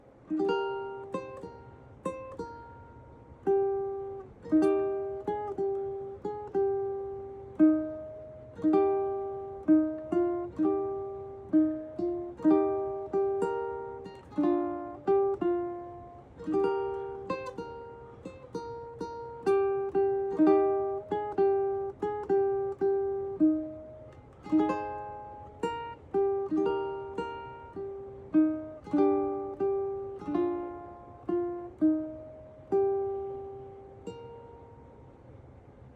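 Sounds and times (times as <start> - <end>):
ukulele playing: 0.0 - 35.8.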